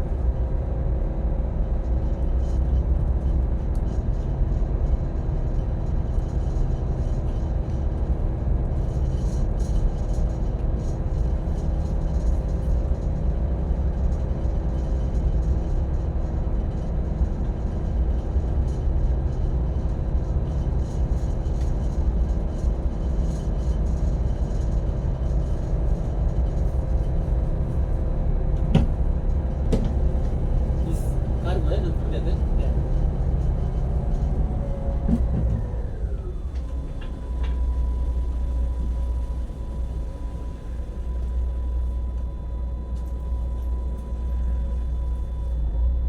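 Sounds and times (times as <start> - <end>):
boat engine drone: 0.0 - 46.0
wind: 0.0 - 46.0.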